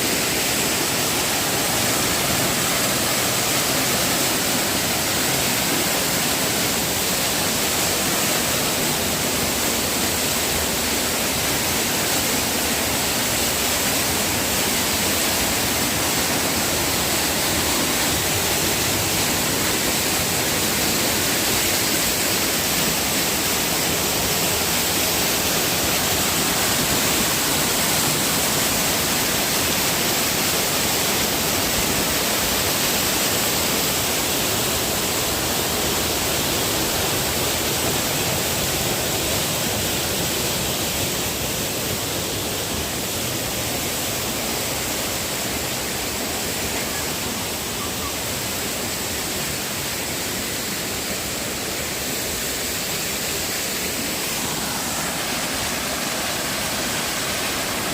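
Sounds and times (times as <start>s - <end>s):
waterfall roar: 0.0s - 57.9s.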